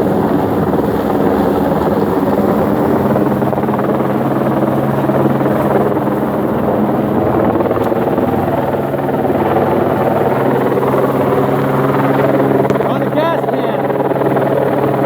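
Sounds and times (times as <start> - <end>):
helicopter rotor chop: 0.0 - 15.0.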